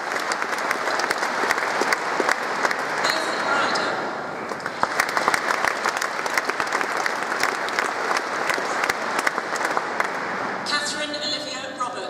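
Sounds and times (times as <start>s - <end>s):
audience applauding: 0.0s - 3.6s, 4.4s - 10.6s.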